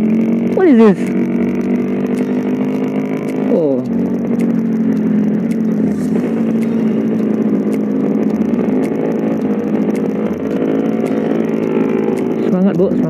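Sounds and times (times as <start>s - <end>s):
motorcycle engine running low: 0.0s - 13.0s.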